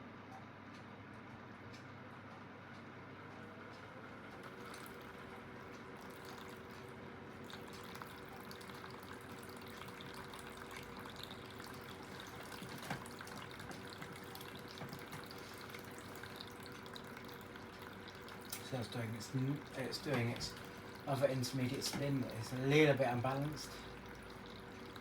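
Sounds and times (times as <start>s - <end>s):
washing machine spinning hum: 0.0s - 25.0s
water draining and splashing: 4.4s - 25.0s.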